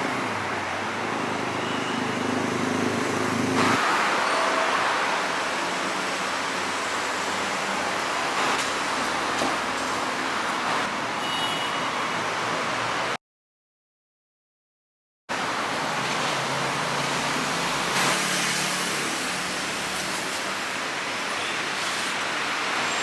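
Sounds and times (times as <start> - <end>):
city street traffic: 0.0 - 13.2, 15.3 - 23.0.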